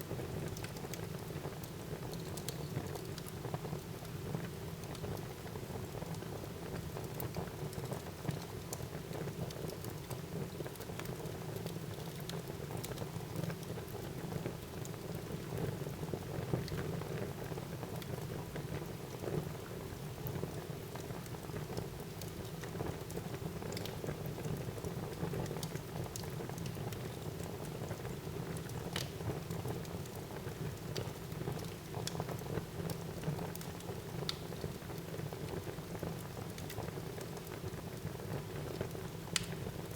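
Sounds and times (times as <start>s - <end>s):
burning wood crackling and popping: 0.1s - 19.3s, 20.2s - 39.9s.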